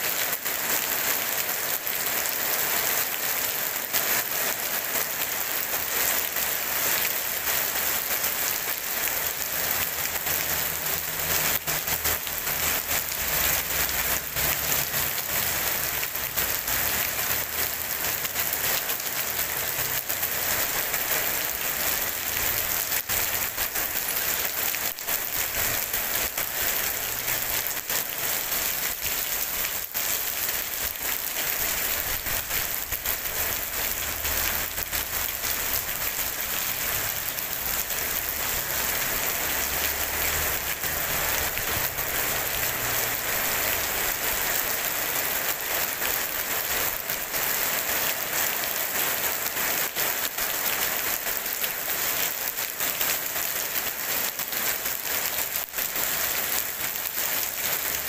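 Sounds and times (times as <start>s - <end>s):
rain falling on pavement: 0.0s - 58.0s.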